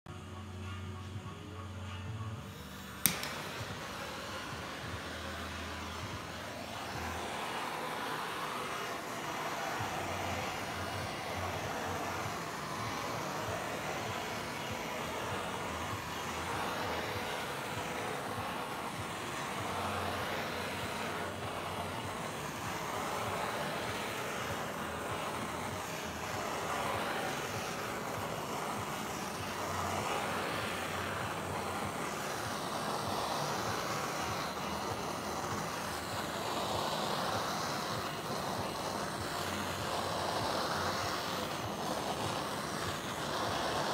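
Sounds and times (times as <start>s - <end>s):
propane torch hissing: 1.5s - 43.9s.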